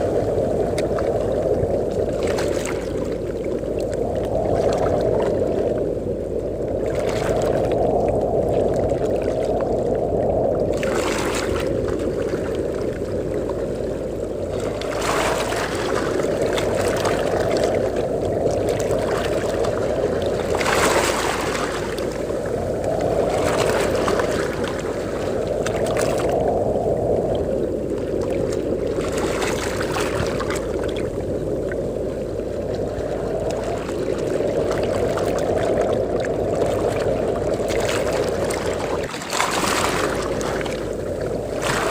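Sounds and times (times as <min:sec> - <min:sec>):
waves breaking on beach: 0:00.0 - 0:41.9
wind rushing: 0:00.0 - 0:41.9.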